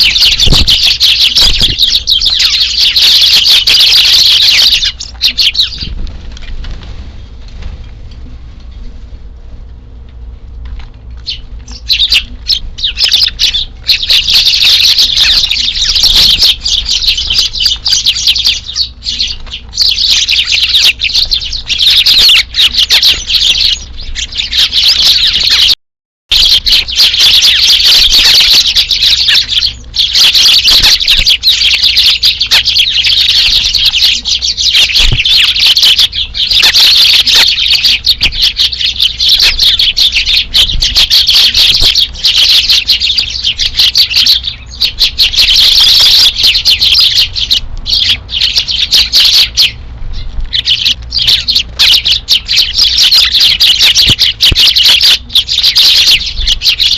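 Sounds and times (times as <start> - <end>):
sparrows chirping: 0.0 - 7.8, 10.8 - 56.9.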